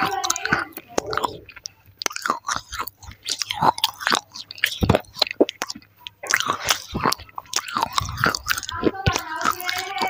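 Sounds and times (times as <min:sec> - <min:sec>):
chewing gritty crunches: 0:00.0 - 0:10.0.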